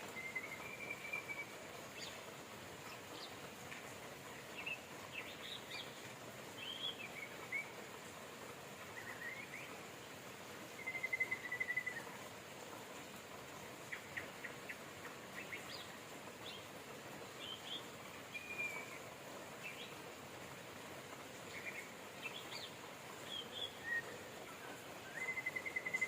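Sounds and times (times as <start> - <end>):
rain hissing: 0.0 - 26.0
songbirds chirping: 0.0 - 26.0.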